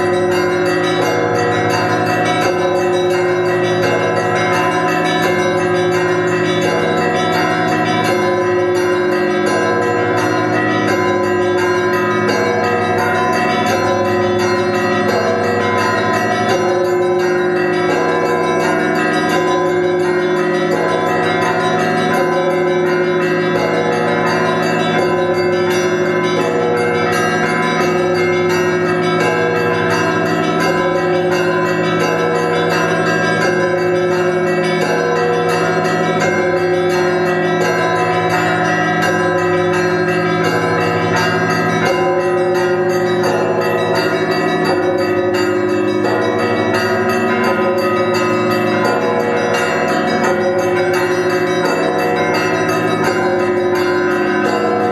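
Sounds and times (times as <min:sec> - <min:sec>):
big bells humming: 0:00.0 - 0:54.9
church bells pealing: 0:00.0 - 0:54.9.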